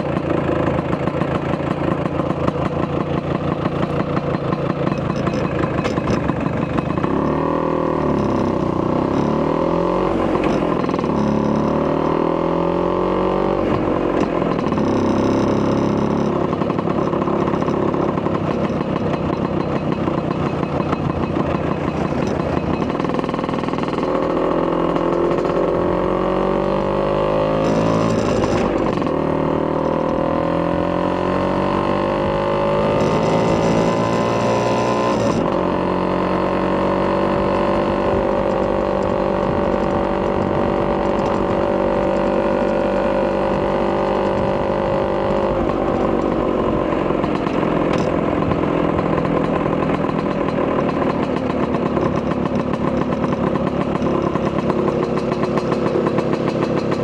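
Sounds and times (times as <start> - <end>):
scooter engine accelerating: 0.0 - 57.0.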